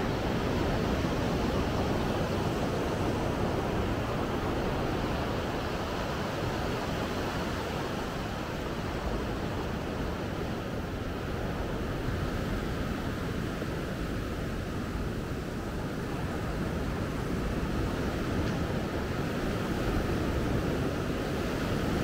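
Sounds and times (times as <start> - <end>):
surf washing on beach: 0.0 - 22.0
wind rumbling on microphone: 0.0 - 22.0.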